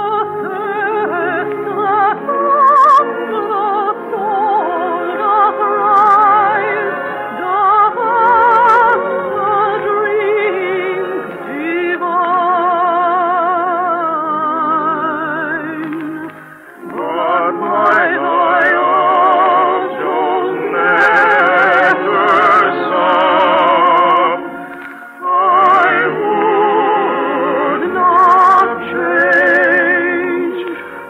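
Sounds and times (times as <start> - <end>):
operatic singing on old radio: 0.0 - 31.0.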